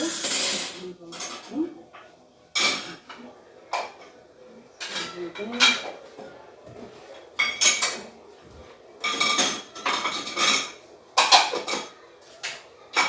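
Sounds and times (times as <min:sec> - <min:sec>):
dishes and cutlery clattering: 0:00.0 - 0:13.0.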